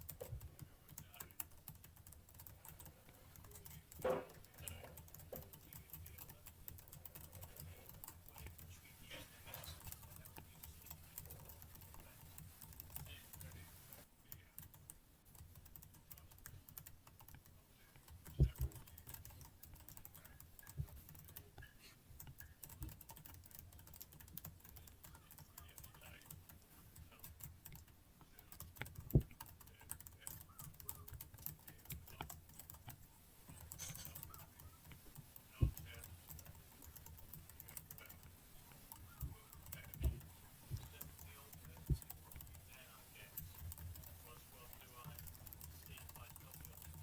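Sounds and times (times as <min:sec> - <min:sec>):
keyboard keys clicking: 0:00.0 - 0:13.9, 0:14.6 - 0:47.0.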